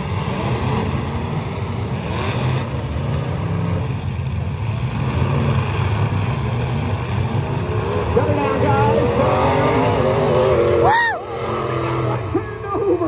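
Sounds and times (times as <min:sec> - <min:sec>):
car engines running: 0:00.0 - 0:13.0
engines revving: 0:00.0 - 0:13.0.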